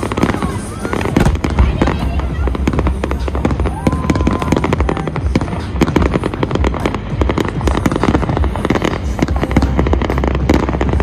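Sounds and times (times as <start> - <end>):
fireworks crackling and popping: 0.0 - 11.0
low rumble: 0.0 - 11.0.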